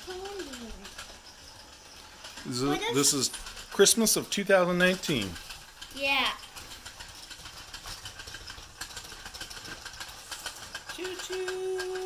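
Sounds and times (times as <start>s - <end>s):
toy train rattling chug: 0.0s - 12.0s.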